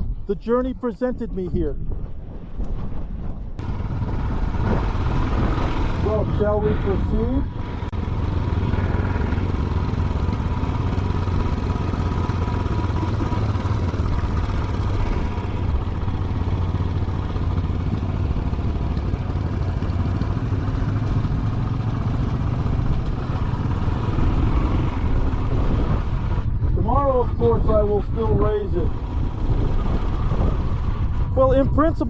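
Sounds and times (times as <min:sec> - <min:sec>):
motorcycle engine rumbling: 0:00.0 - 0:32.0.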